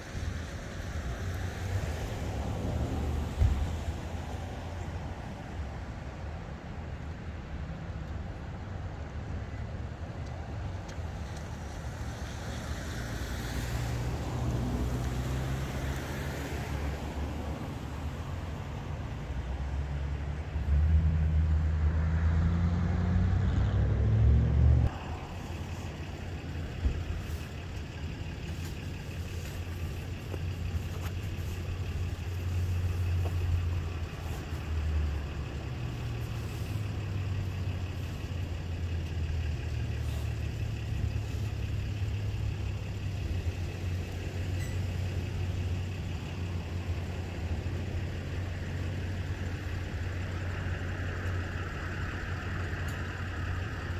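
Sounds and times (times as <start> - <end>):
vehicle engine idling: 0.0 - 22.8, 24.8 - 53.9.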